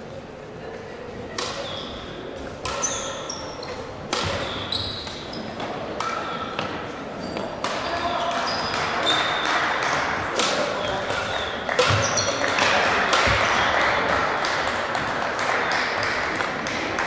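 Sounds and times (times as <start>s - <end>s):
murmur of voices: 0.0s - 17.0s
racket hits: 1.3s - 17.0s.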